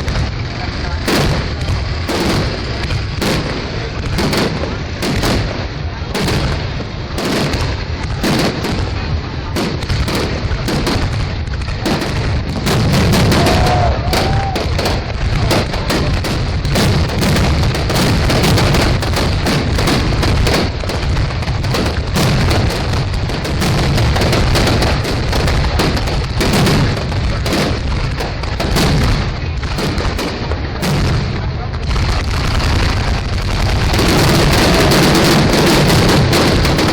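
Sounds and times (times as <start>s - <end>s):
fireworks booming and banging: 0.0s - 36.9s
fireworks rumble and crackle: 0.0s - 36.9s.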